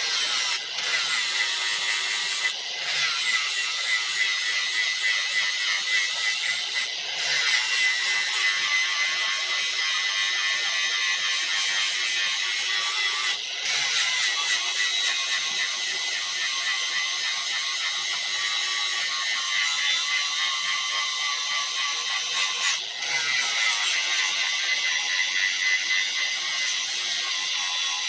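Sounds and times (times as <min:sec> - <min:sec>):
angle grinder grinding steel: 0:00.0 - 0:28.0.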